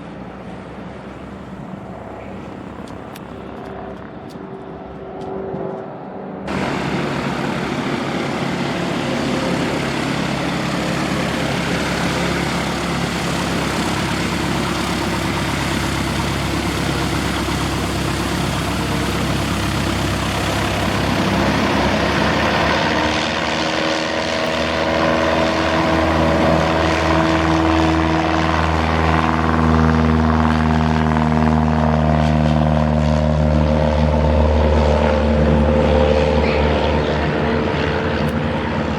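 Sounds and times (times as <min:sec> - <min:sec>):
propeller airplane engine drone: 0:00.0 - 0:38.9.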